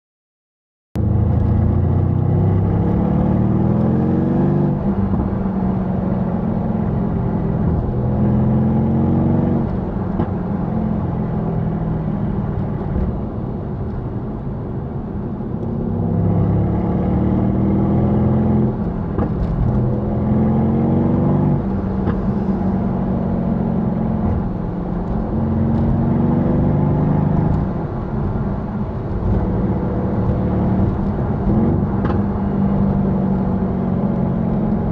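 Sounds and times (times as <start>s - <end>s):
car engine accelerating: 1.0s - 14.4s, 15.1s - 34.9s.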